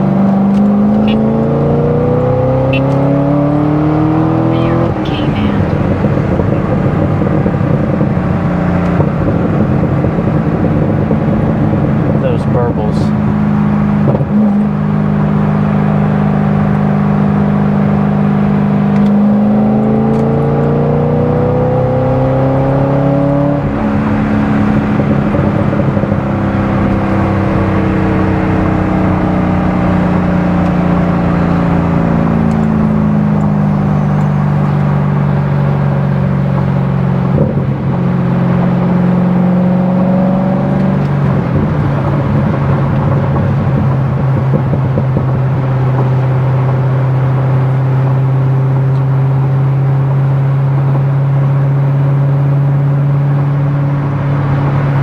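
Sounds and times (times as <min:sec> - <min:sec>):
sports car engine running: 0:00.0 - 0:55.0.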